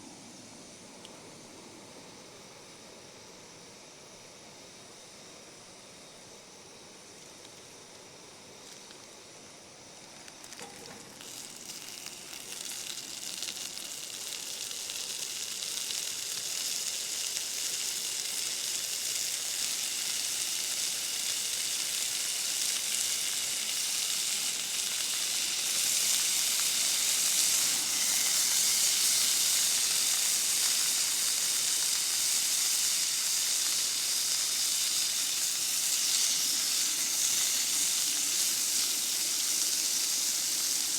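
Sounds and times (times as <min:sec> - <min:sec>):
sausages sizzling in a pan: 0:05.1 - 0:40.9.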